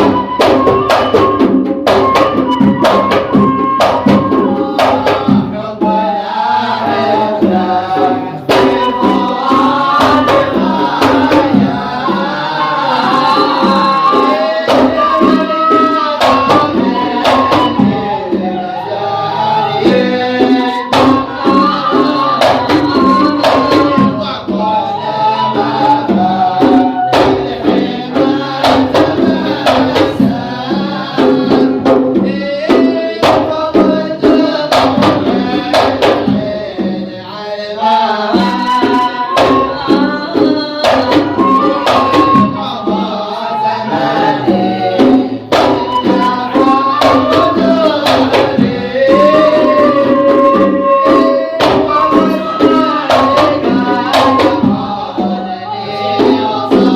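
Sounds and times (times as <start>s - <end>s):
devotional singing: 0.0s - 56.9s
hand drum beat: 0.0s - 56.9s.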